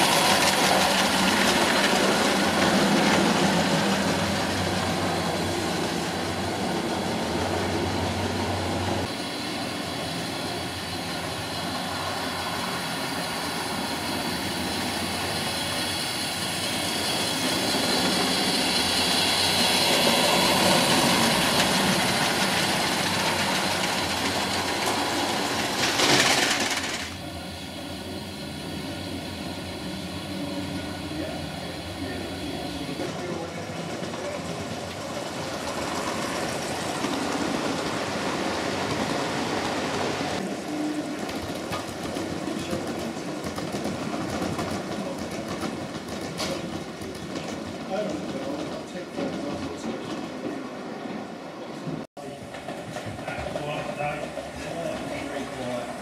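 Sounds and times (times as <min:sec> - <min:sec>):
model train rolling hum: 0:00.0 - 0:56.0.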